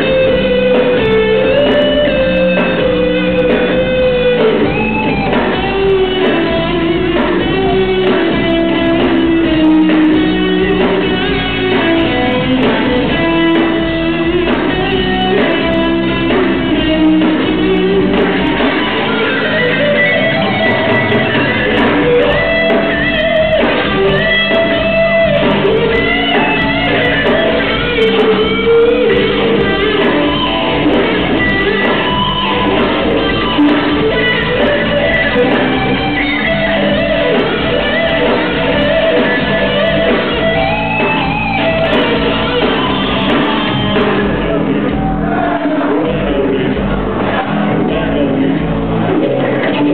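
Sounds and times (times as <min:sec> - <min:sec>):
electric guitar: 0:00.0 - 0:49.9
steady rhythm: 0:00.0 - 0:49.9.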